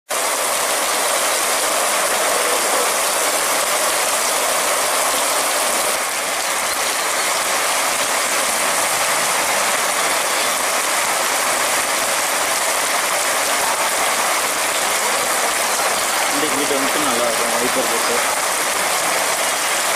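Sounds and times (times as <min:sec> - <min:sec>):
heavy rain on wet pavement: 0:00.1 - 0:19.9.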